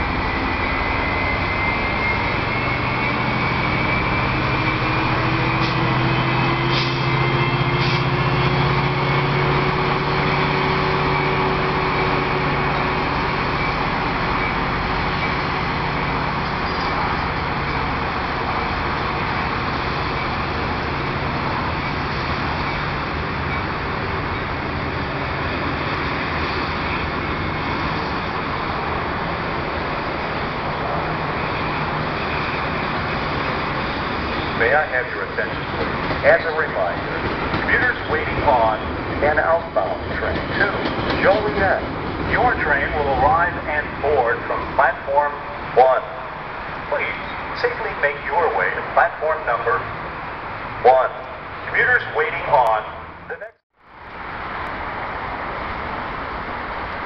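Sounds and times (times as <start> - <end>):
diesel locomotive engine: 0.0 - 57.0
wheels rumbling on rail: 0.0 - 57.0.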